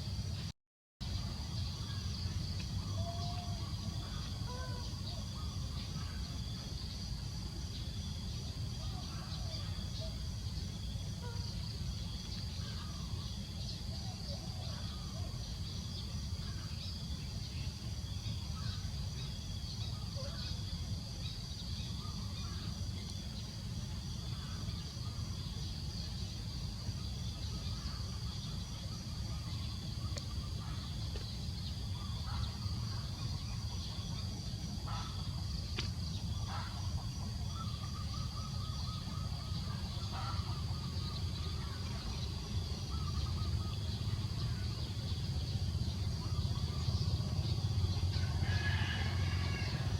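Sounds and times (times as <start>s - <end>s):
low constant rumble: 0.0s - 49.9s
high insect drone: 1.0s - 49.9s.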